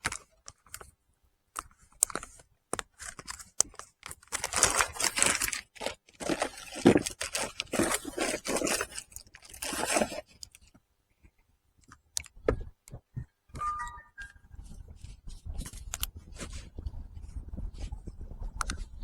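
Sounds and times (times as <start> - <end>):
crinkling and rustling handling: 0.0 - 13.8, 14.5 - 19.0.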